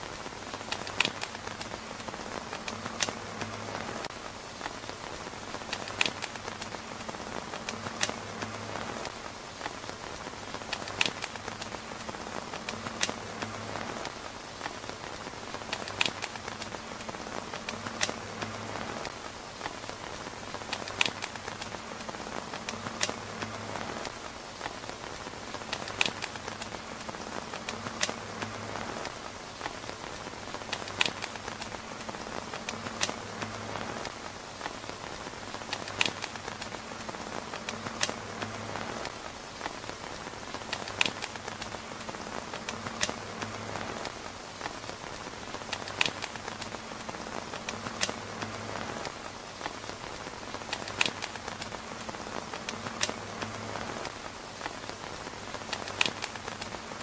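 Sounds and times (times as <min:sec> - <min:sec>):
rain on a tent roof: 0:00.0 - 0:57.0.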